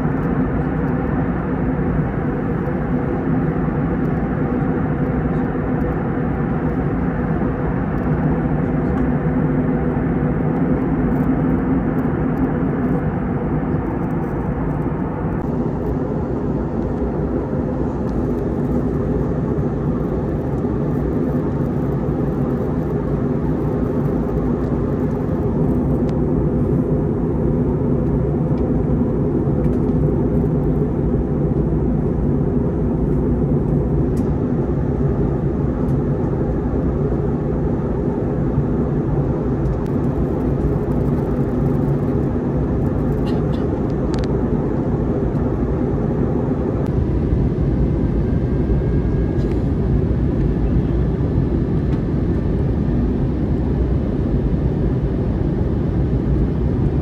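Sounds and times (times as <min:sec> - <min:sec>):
jet airliner engine rumble: 0:00.0 - 0:57.0.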